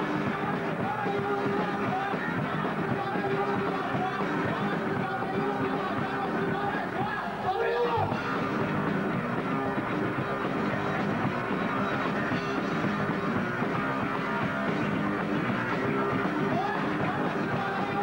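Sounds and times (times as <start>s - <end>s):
bass guitar: 0.0s - 18.0s
electric guitar: 0.0s - 18.0s
rock band playing live: 0.0s - 18.0s.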